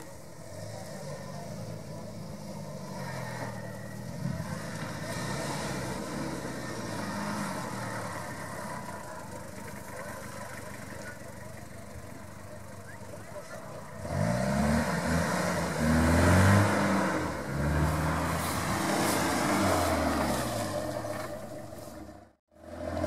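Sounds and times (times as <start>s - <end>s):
off-road vehicle engine under load: 0.0s - 23.0s.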